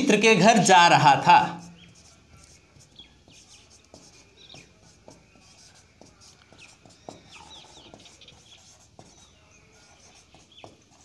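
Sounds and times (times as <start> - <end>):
marker writing on whiteboard: 0.0 - 11.0
small birds chirping: 1.5 - 11.0.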